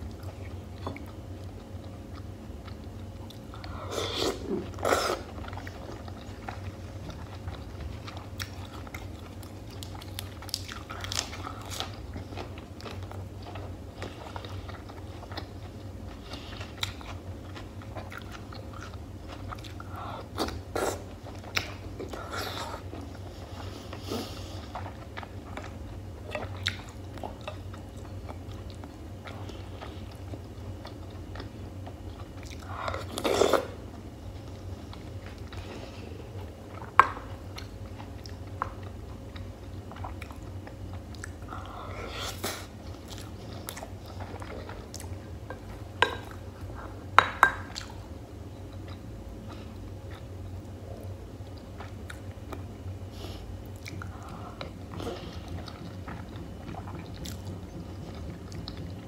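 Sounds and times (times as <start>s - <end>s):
close-miked chewing: 0.0s - 59.0s
steady low hum: 0.0s - 59.0s.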